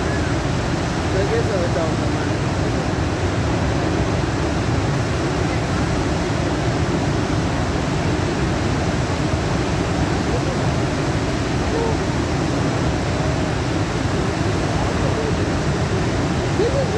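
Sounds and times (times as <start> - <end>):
waterfall roar: 0.0 - 16.9.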